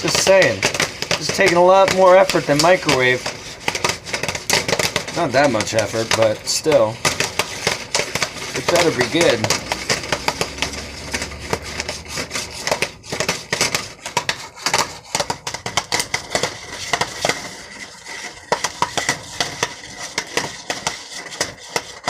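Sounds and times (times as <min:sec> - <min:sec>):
popcorn kernels popping: 0:00.0 - 0:22.0.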